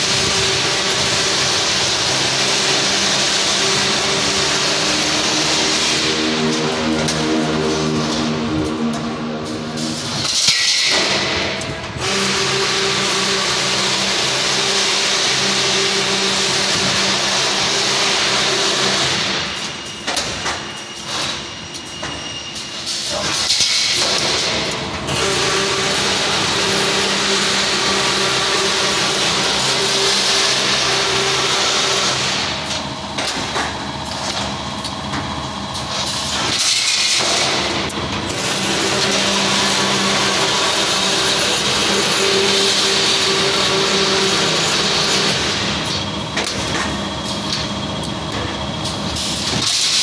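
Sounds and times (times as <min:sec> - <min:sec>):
bending machine hum and whir: 0:00.0 - 0:50.0.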